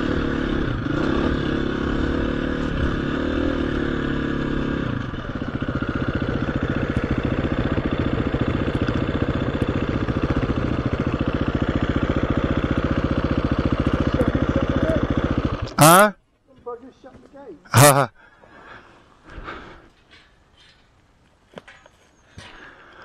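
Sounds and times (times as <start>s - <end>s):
dirt bike engine idling: 0.0s - 20.3s.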